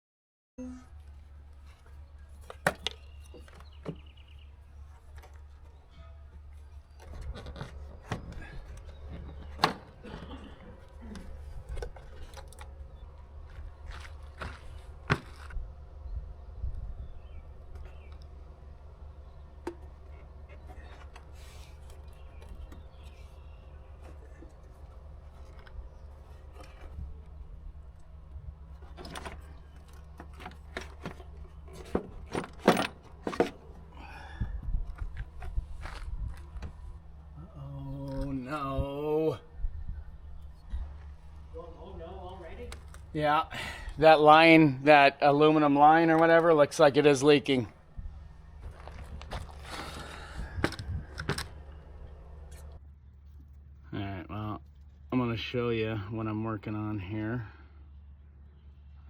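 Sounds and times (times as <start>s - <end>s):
steady low hum: 0.6s - 59.0s.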